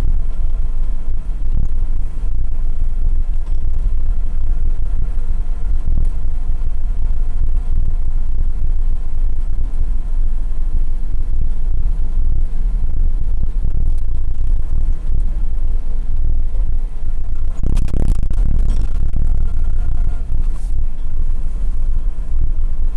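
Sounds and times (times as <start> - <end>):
truck engine droning: 0.0 - 22.9.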